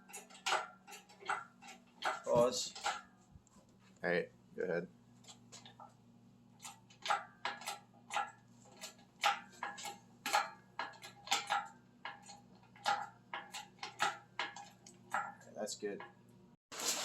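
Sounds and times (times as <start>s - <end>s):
metallic clicks and clanks: 0.0s - 3.2s, 5.2s - 5.9s, 6.6s - 16.3s.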